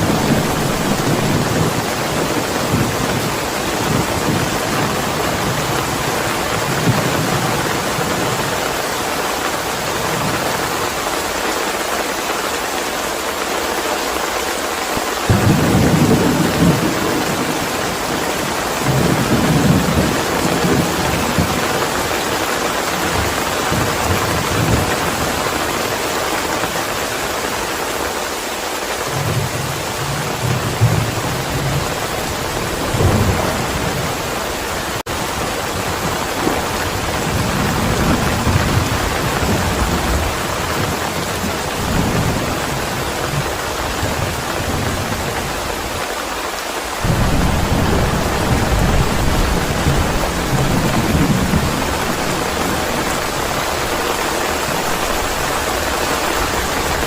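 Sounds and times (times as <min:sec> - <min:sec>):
thunder rumbling: 0:00.0 - 0:11.0, 0:15.2 - 0:27.0, 0:29.1 - 0:46.0, 0:47.0 - 0:57.0
heavy rain: 0:00.0 - 0:57.0.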